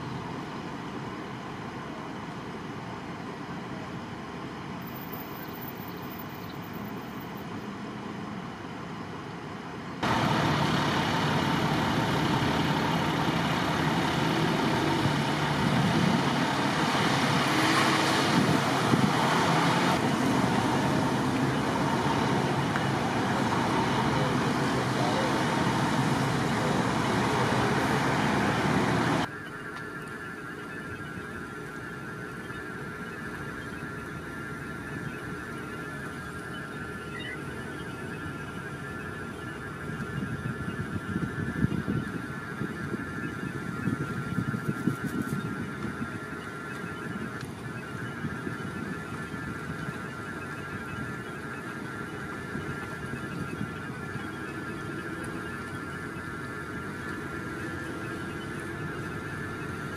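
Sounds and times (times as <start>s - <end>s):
engine noise: 0.0s - 59.9s
traffic noise: 0.0s - 59.9s.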